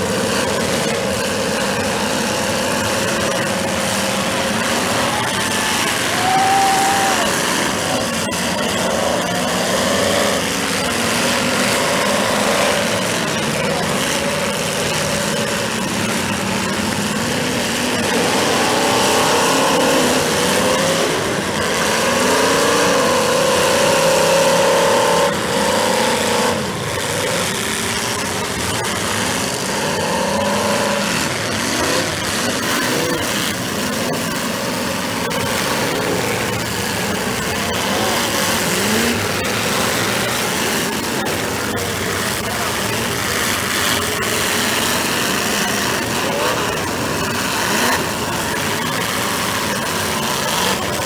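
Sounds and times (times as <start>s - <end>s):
car engines revving: 0.0s - 51.0s.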